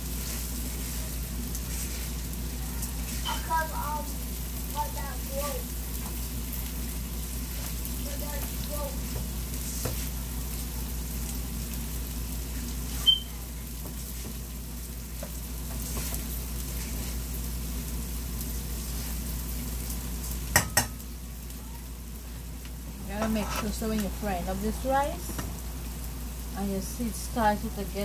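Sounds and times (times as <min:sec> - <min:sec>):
chicken frying in oil: 0:00.0 - 0:28.0.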